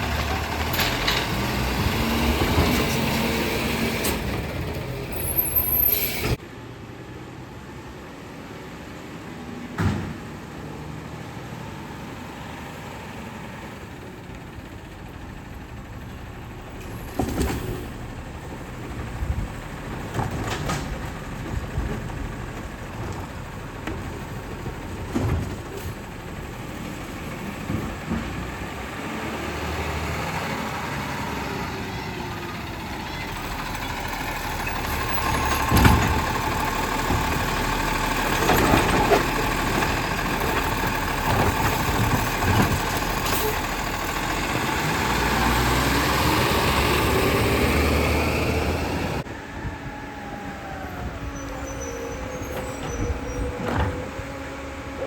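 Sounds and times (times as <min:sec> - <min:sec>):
garbage truck engine running: 0:00.0 - 0:06.4, 0:12.3 - 0:55.0.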